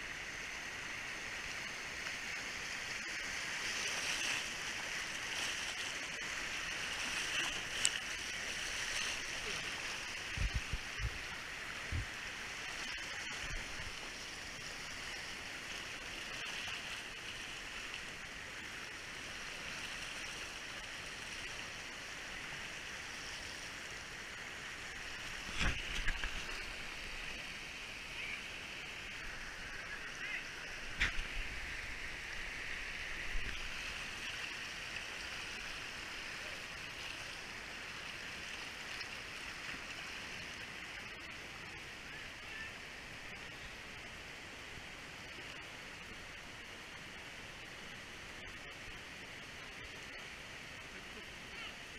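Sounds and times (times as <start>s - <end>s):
water rushing over rocks: 0.0s - 51.9s.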